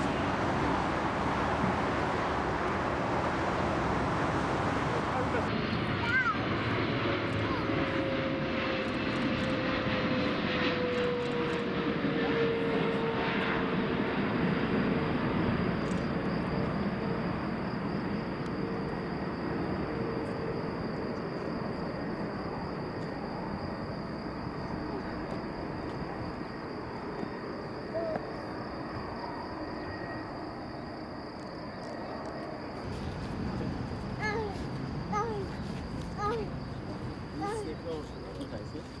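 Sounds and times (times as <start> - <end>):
jet engine whine: 0.0 - 39.0.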